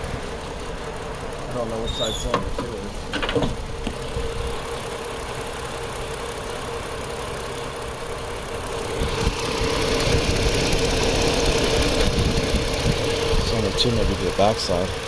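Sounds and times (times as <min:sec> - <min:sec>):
engine idling rough: 0:00.0 - 0:15.0.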